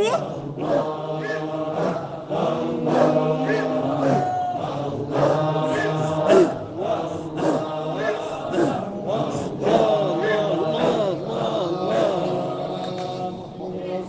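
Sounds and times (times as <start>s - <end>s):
group of voices chanting: 0.0s - 14.0s.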